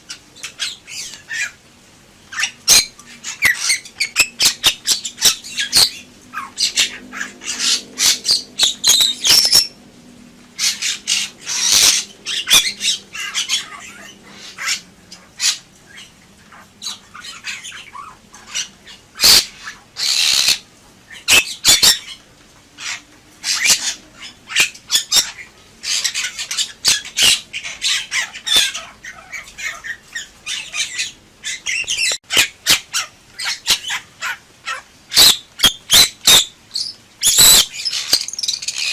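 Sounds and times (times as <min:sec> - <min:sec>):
bird scratchy calls and squawks: 0:02.3 - 0:09.8, 0:10.6 - 0:38.9.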